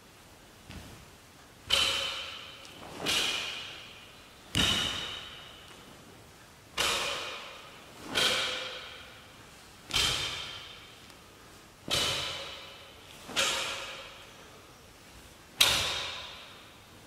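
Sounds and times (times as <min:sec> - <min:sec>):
sharp cracks echoing in hall: 0:01.6 - 0:06.1, 0:06.7 - 0:14.7, 0:15.6 - 0:17.0.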